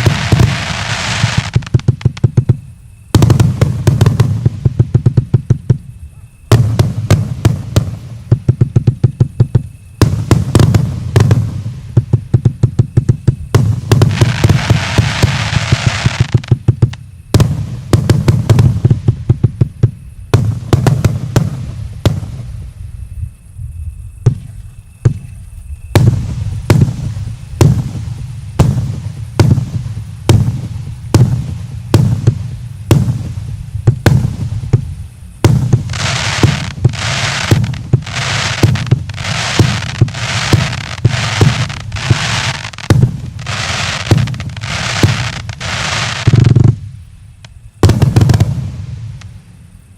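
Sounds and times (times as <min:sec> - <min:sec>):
firework bangs: 0:00.0 - 0:22.7, 0:25.9 - 0:49.4
firework crackling bursts: 0:00.0 - 0:23.1, 0:25.9 - 0:49.6.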